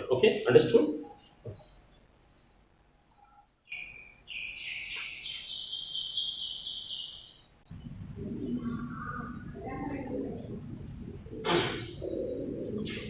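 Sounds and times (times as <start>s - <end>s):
high continuous bird call: 0.0s - 13.0s.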